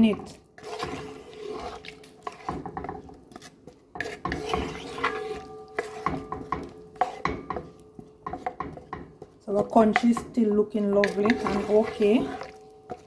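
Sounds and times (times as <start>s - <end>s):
wooden spoon stirring stew pot: 0.0s - 13.0s.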